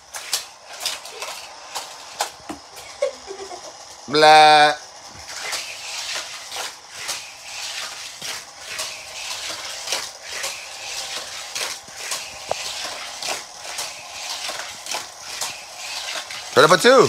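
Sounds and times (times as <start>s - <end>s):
plastic toy track clattering: 0.0s - 2.8s, 3.5s - 17.0s.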